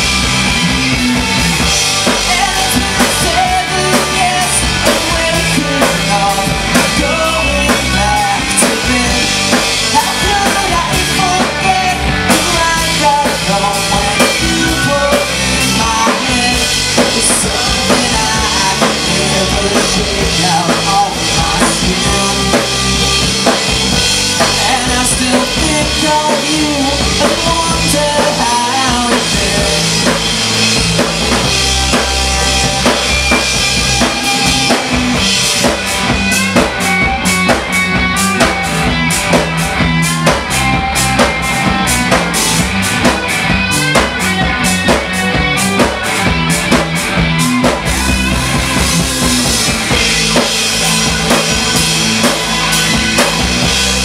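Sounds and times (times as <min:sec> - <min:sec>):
drum kit: 0:00.0 - 0:54.0
electric bass: 0:00.0 - 0:54.0
electric guitars: 0:00.0 - 0:54.0.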